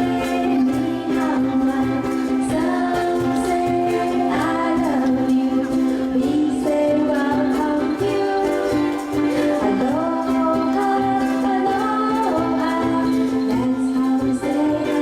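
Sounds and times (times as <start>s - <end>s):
people singing: 0.0s - 15.0s
ukulele ensemble playing: 0.0s - 15.0s.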